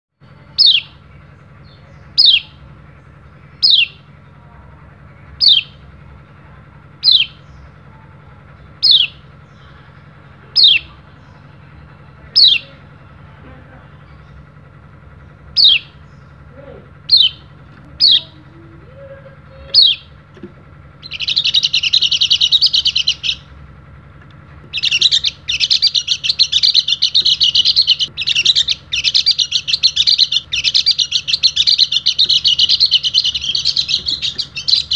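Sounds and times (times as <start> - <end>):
bird warbling song: 0.2 - 34.9
bird chirping: 0.4 - 13.2, 13.8 - 20.4, 21.0 - 23.5, 24.7 - 34.9.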